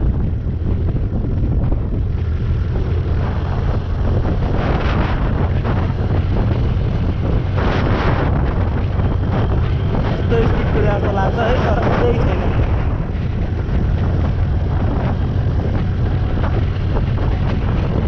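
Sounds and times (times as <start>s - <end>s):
vehicle and road noise: 0.0s - 18.0s
wind buffeting microphone: 0.0s - 18.0s.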